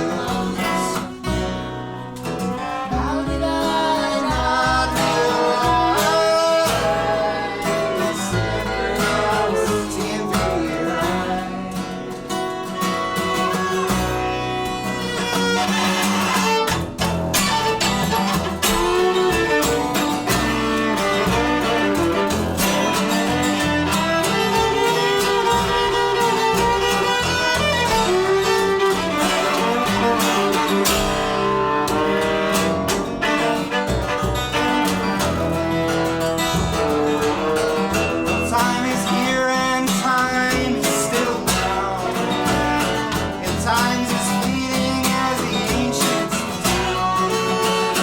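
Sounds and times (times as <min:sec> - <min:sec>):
bass: 0:00.0 - 0:48.0
strummed acoustic guitar: 0:00.0 - 0:48.0
viola sliding melody: 0:00.0 - 0:48.0.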